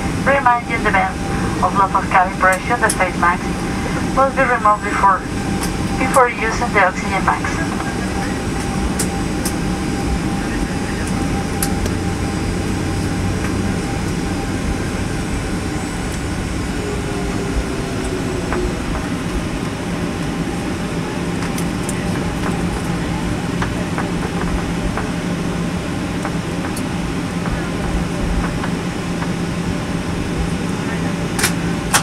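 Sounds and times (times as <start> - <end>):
aircraft cabin engine hum: 0.0 - 32.0.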